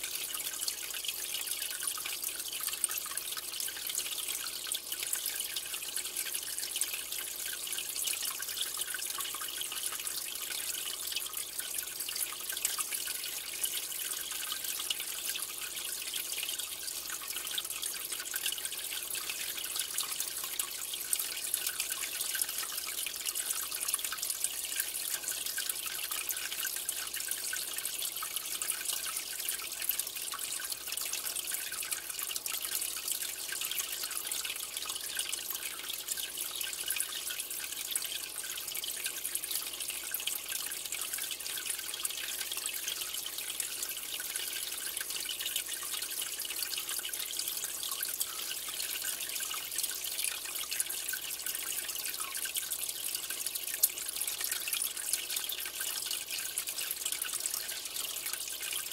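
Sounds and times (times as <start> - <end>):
aquarium water trickling and bubbling: 0.0 - 58.9.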